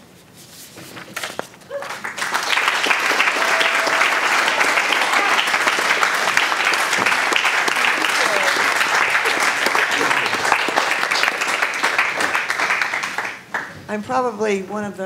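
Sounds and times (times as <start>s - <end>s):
audience applauding: 1.7s - 13.8s.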